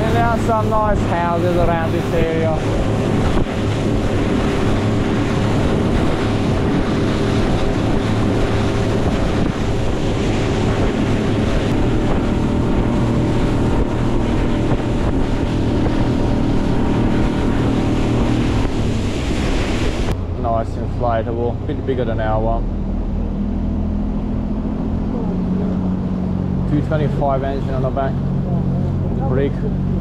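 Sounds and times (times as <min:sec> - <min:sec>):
outboard motor running: 0:00.0 - 0:30.0
water splashing along hull: 0:00.0 - 0:30.0
wind buffeting microphone: 0:00.0 - 0:30.0.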